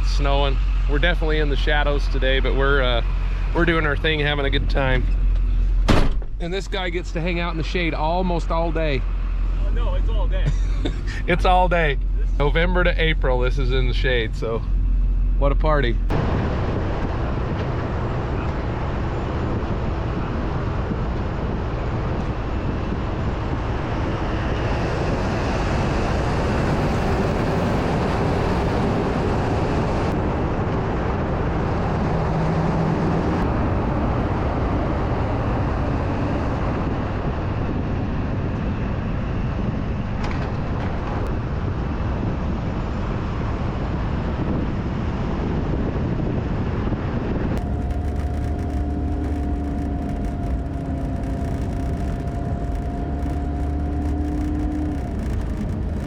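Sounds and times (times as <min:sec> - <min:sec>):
truck engine and tyre noise: 0:00.0 - 0:56.0.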